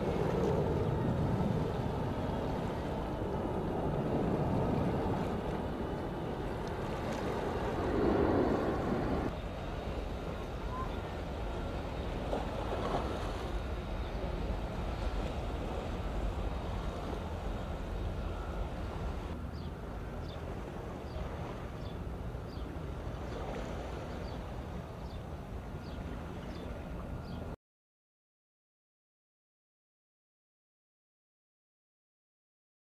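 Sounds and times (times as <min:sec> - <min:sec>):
wind buffeting microphone: 0:00.0 - 0:27.5.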